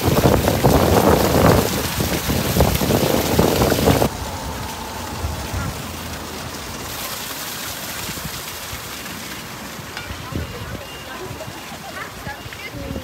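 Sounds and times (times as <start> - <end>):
splashing water: 0.0 - 13.0.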